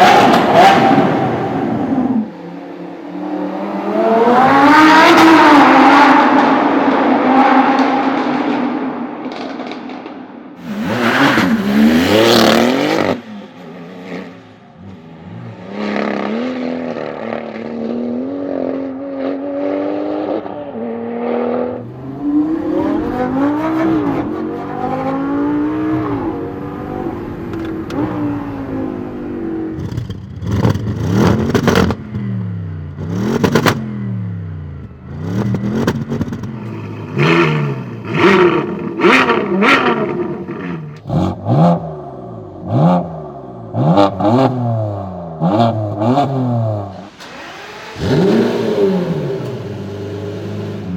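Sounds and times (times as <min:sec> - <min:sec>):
car engine revving: 0:00.0 - 0:08.5, 0:10.6 - 0:50.9.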